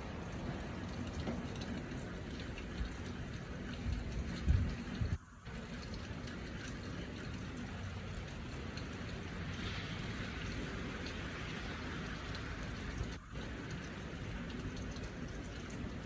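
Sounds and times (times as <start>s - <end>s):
wet snow and rain falling: 0.0s - 16.0s.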